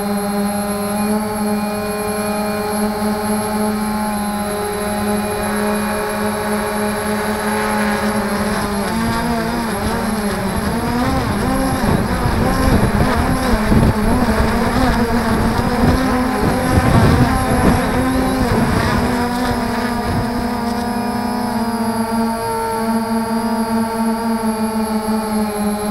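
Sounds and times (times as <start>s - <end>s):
drone propellers whining: 0.0s - 25.9s.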